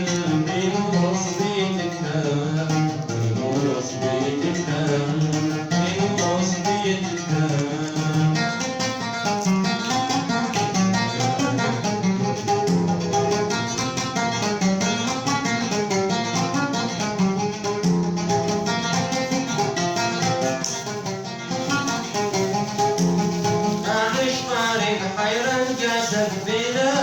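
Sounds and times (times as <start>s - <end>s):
plucked string instrument melody: 0.0s - 27.0s.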